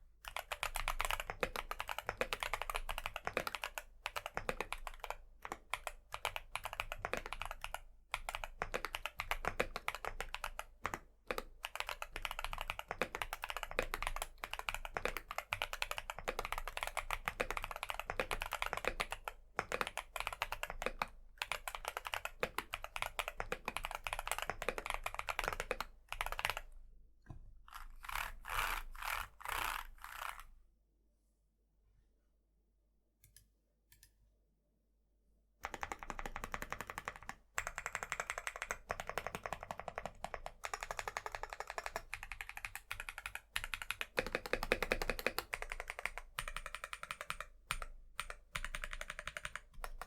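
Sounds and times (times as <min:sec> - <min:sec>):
fast typing on mechanical keyboard: 0:00.2 - 0:26.8, 0:27.7 - 0:30.4, 0:35.6 - 0:50.0.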